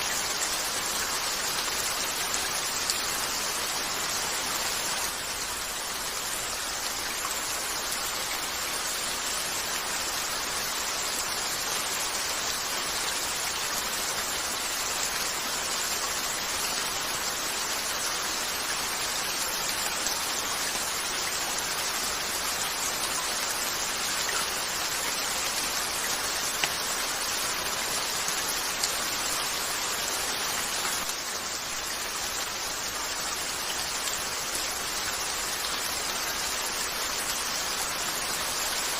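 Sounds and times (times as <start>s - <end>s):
rain pattering on a window: 0.0s - 38.9s.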